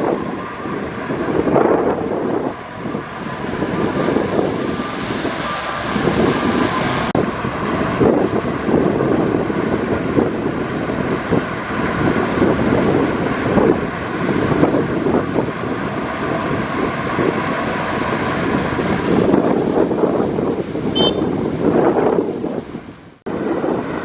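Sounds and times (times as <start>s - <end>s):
diesel engine running: 0.0s - 21.5s.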